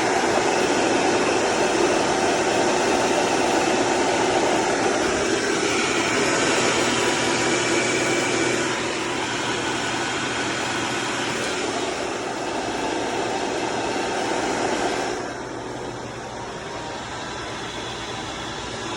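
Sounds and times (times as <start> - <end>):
transfer case grinding whir: 0.0 - 18.9.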